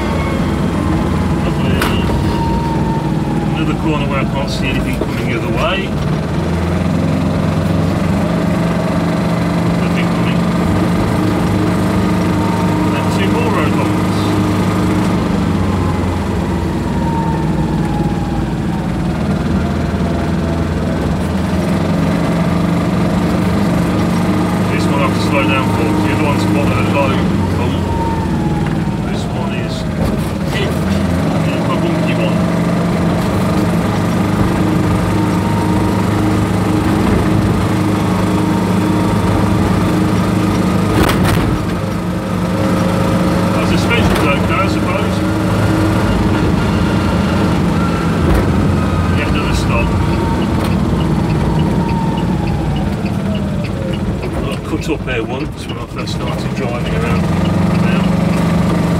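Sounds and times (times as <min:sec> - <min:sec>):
small diesel engine running: 0:00.0 - 0:58.9.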